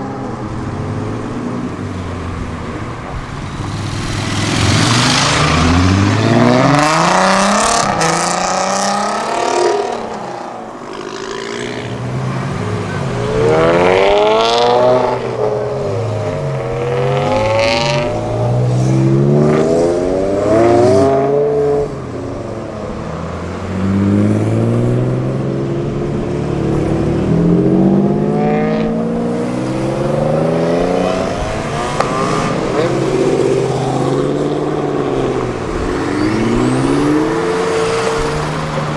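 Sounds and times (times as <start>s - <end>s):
car engines accelerating: 0.0s - 38.9s.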